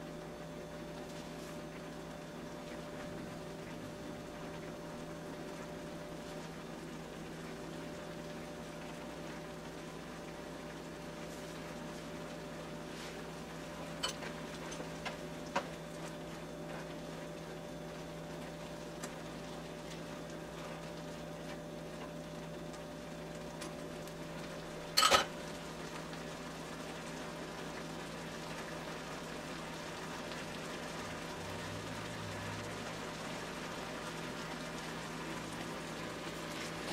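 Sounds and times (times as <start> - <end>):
food bubbling in a skillet: 0.0 - 36.9.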